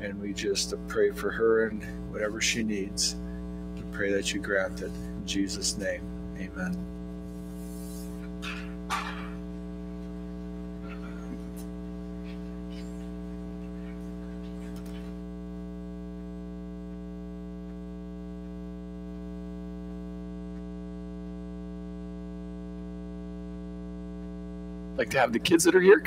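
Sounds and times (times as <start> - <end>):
electrical hum and buzz: 0.0 - 26.0.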